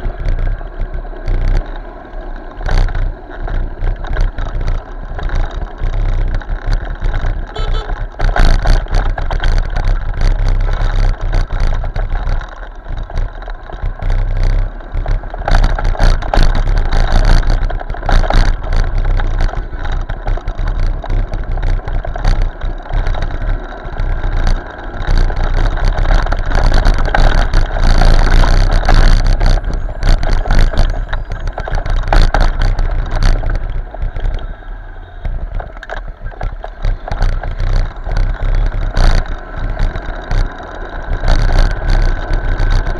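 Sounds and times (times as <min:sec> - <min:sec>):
motorcycle rumble: 0:00.0 - 0:42.9
wind buffeting microphone: 0:00.0 - 0:42.9.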